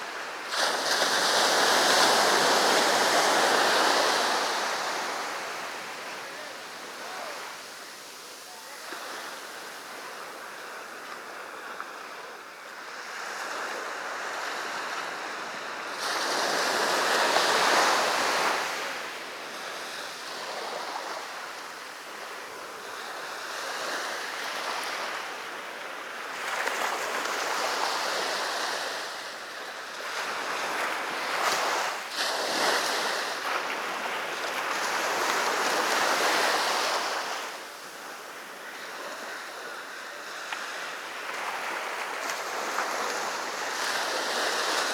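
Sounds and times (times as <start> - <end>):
sea waves breaking on beach: 0.0 - 44.9.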